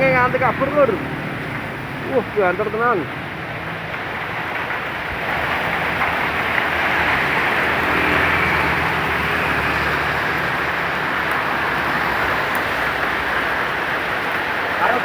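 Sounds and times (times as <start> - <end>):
heavy rain: 0.0 - 15.0
strong storm wind: 0.0 - 15.0.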